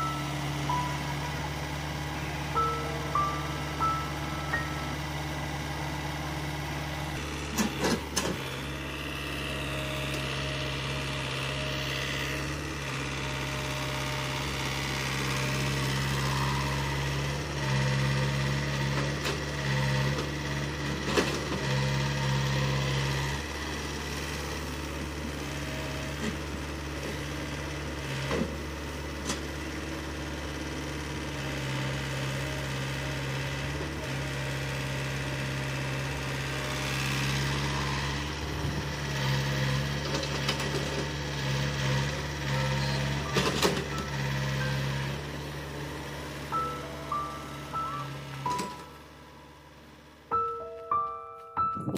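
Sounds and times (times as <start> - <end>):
diesel machinery engine running: 0.0 - 51.9.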